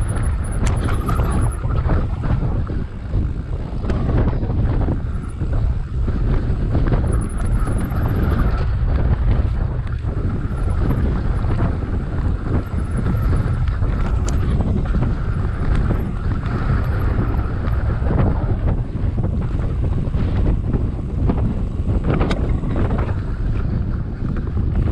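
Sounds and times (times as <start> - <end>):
bike knocks and rattles: 0.0 - 24.9
wind rushing over microphone: 0.0 - 24.9.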